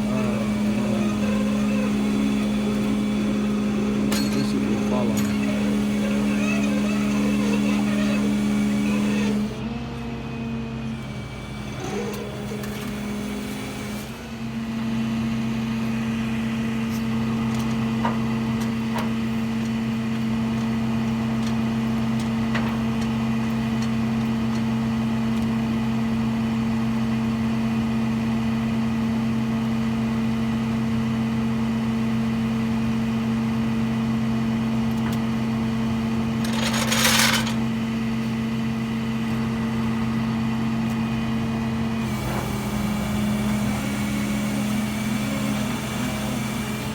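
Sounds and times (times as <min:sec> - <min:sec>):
vehicle engine humming: 0:00.0 - 0:27.3, 0:33.9 - 0:46.9.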